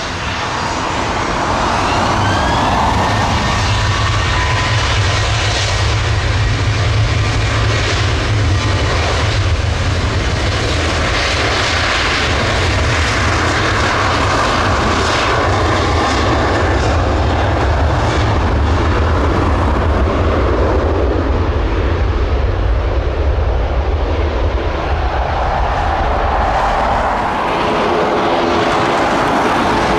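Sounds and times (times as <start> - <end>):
airliner engines roaring: 0.0 - 29.9.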